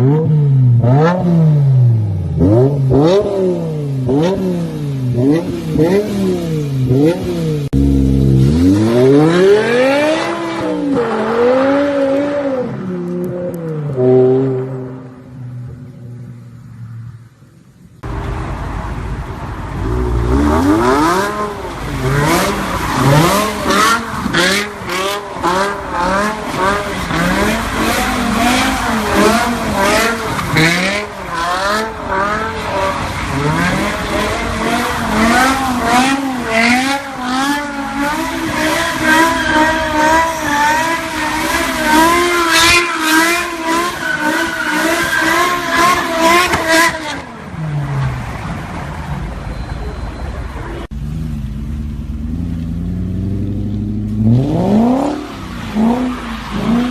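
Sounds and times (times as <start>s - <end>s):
car engine revving: 0.0s - 17.0s, 18.0s - 48.7s, 50.8s - 56.9s.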